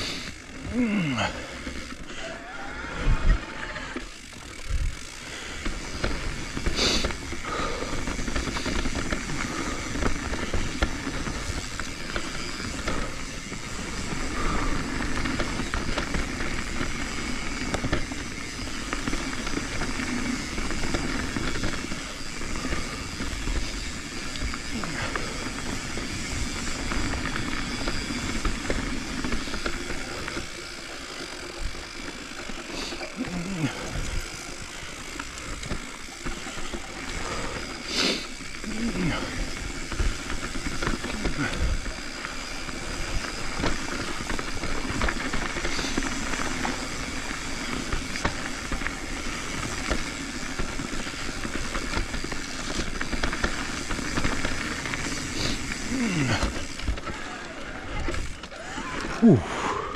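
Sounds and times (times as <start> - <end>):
bike clicks and rattles: 0.0 - 59.9
tyres running over dirt: 0.0 - 59.9.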